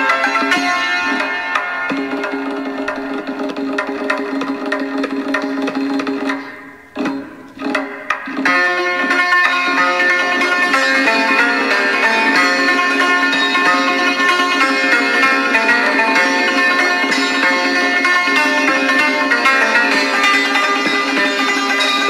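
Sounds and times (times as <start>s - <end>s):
hammered dulcimer playing: 0.0s - 22.0s.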